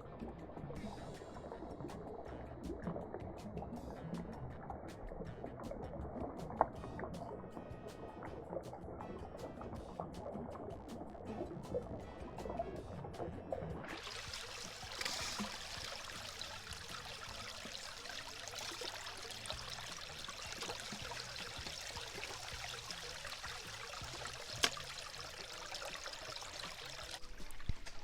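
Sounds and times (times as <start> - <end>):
creek water flowing: 0.0 - 28.0.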